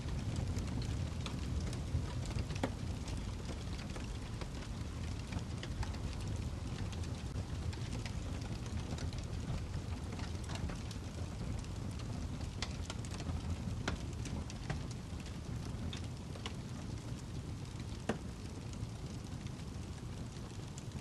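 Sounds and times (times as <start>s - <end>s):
log fire crackling and popping: 0.0s - 21.0s.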